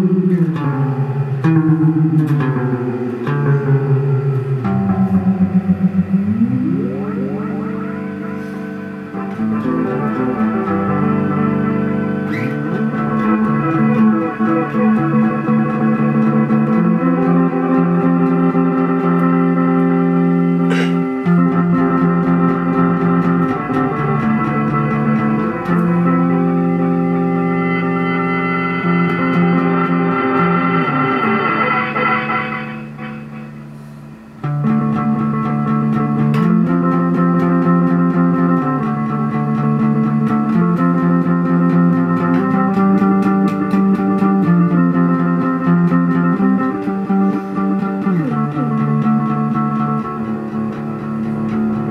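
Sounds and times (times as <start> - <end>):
guitar through effects pedal: 0.0 - 51.9.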